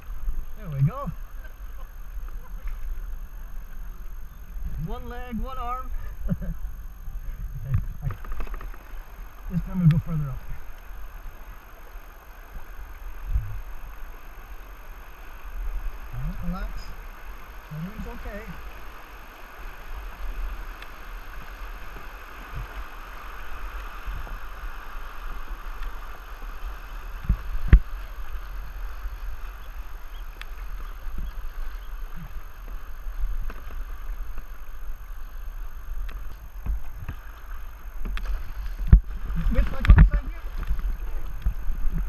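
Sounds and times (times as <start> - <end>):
paddles splashing: 8.0 - 42.0.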